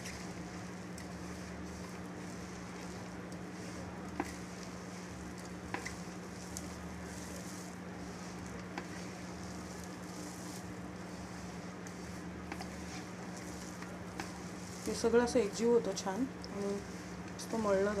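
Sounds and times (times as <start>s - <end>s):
hand squishing damp mixture: 0.0s - 18.0s.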